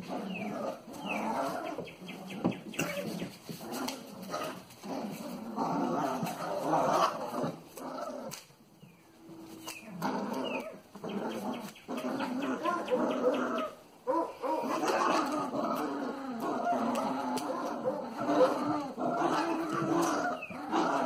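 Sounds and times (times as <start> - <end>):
puppies play-growling: 0.0 - 8.5, 9.2 - 21.0.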